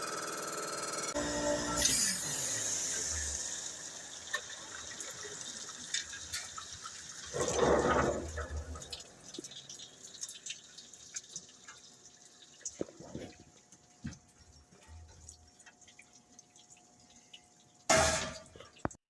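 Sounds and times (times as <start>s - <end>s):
water running: 1.1s - 19.0s
water dripping: 2.9s - 19.0s.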